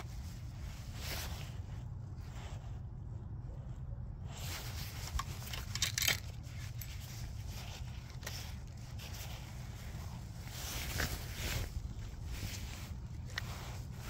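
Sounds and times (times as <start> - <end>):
hands handling fishing rod and reel: 0.0 - 2.9, 4.2 - 14.0.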